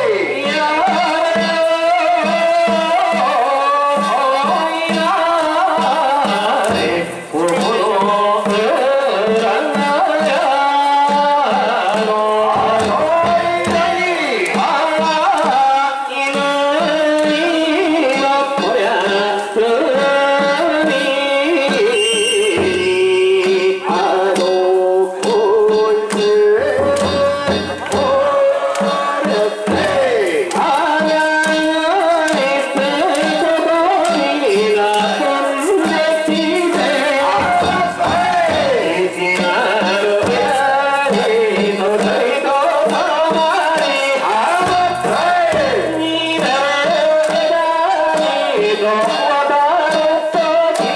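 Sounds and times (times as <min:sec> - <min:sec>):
drums and percussion: 0:00.0 - 0:50.9.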